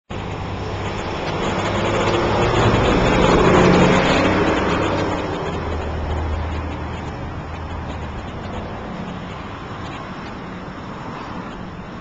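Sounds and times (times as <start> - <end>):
vehicle driving past: 0.1 - 12.0.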